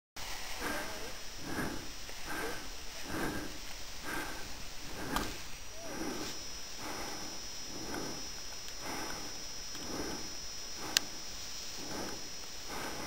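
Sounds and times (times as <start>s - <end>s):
heavy rhythmic breathing: 0.4s - 13.0s.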